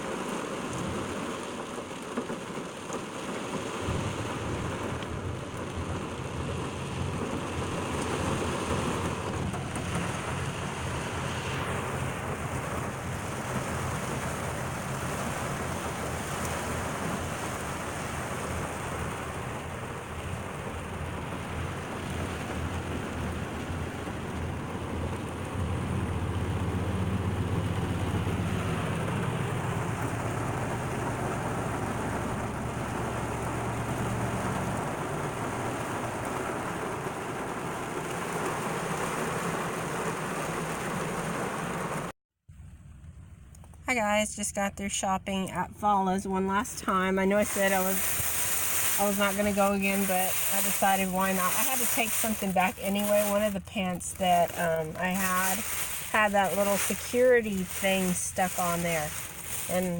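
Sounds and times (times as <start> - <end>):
heavy rain falling: 0.0 - 42.1, 46.8 - 59.9.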